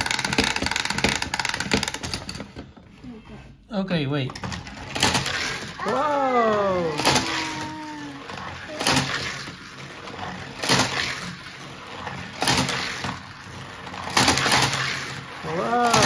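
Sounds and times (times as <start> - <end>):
plastic clacks of toy cars: 0.0 - 2.9, 4.2 - 5.8, 6.9 - 16.0.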